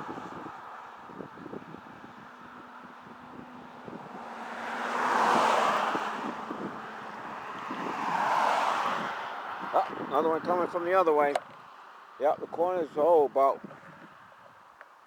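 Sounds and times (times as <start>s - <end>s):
wind on microphone: 0.0s - 11.6s, 13.6s - 14.6s
cars passing on road: 0.0s - 15.0s.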